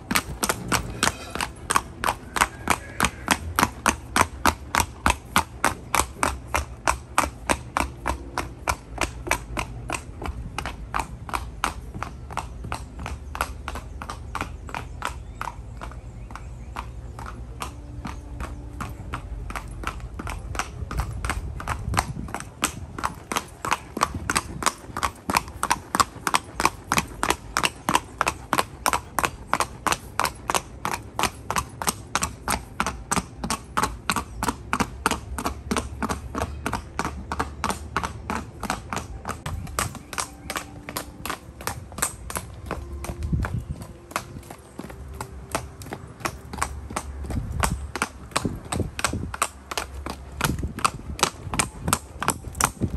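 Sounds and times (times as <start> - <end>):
horse hoofbeats on concrete: 0.0 - 52.9.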